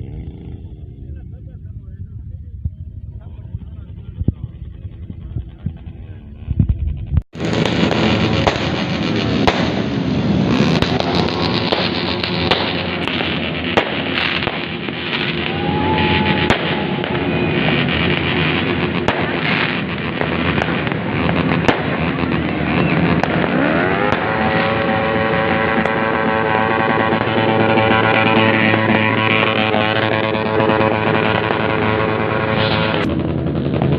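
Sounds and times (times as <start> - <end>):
motorcycles revving: 0.0 - 33.9
sharp cracks: 3.0 - 33.9.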